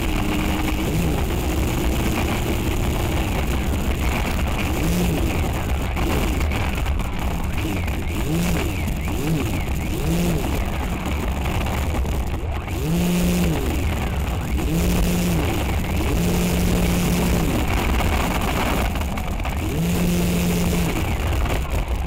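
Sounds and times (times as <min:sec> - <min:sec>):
motor and propeller whine: 0:00.0 - 0:22.0.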